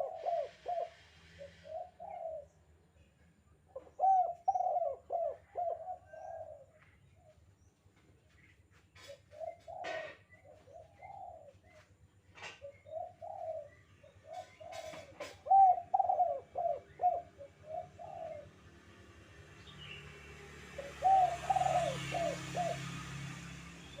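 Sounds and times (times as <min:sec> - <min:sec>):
dove cooing: 0:00.0 - 0:02.6, 0:03.7 - 0:07.3, 0:09.0 - 0:18.7, 0:20.7 - 0:24.0.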